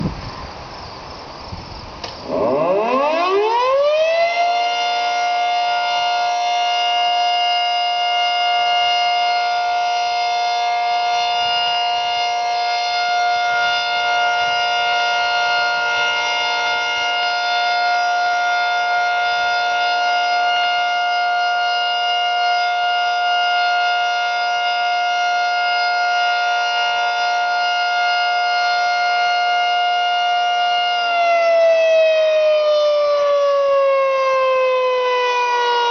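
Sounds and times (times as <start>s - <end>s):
warning siren winding up: 2.1s - 35.9s.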